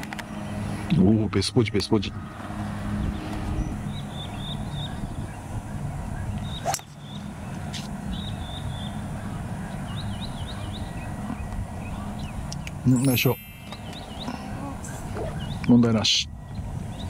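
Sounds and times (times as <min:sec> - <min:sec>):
steady low hum: 0:00.0 - 0:17.0
small birds chirping: 0:02.1 - 0:17.0.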